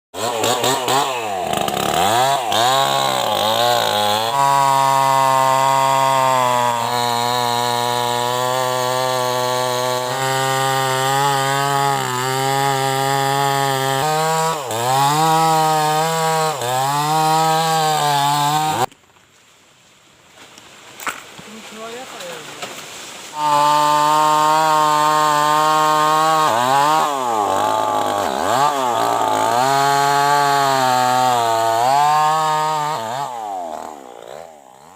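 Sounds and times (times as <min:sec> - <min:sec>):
chainsaw revving: 0:00.2 - 0:18.9, 0:23.3 - 0:34.9.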